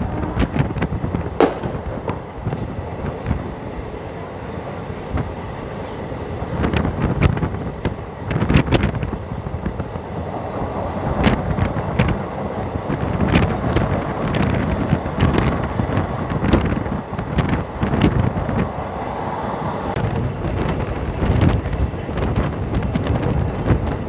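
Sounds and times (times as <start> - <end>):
train rumbling on track: 0.0 - 24.0
wheels clicking over rails: 0.0 - 24.0
wind buffeting microphone: 0.0 - 24.0.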